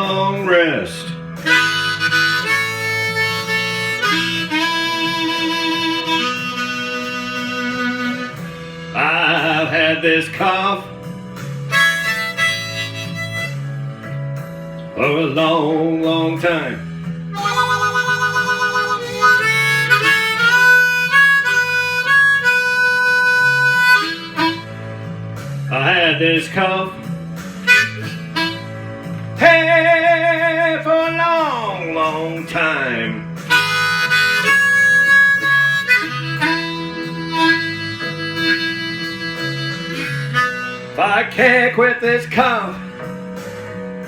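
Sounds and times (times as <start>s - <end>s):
strummed guitar: 0.0s - 44.0s
harmonica long notes: 0.8s - 14.6s, 16.8s - 44.0s.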